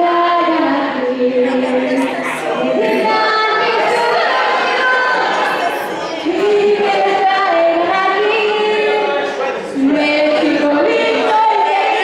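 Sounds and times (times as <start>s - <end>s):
crowd singing in unison: 0.0s - 12.0s.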